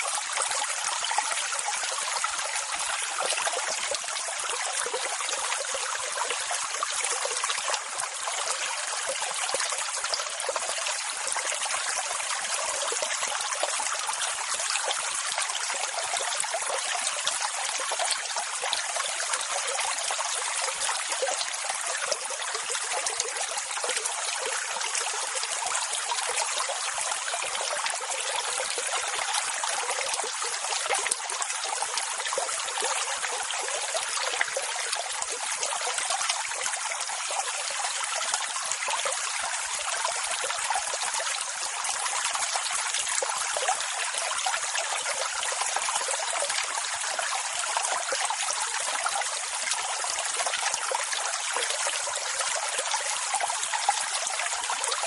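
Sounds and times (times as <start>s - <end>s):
rushing trickling water: 0.0s - 55.0s.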